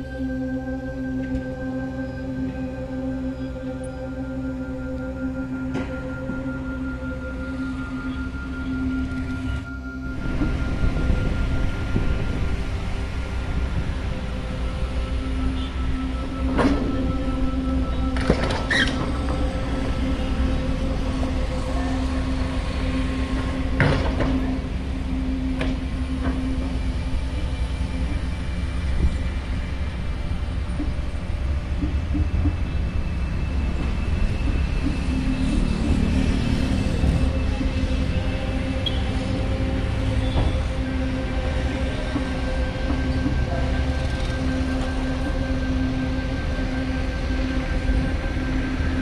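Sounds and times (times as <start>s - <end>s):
diesel engine low rumble: 0.0s - 49.0s.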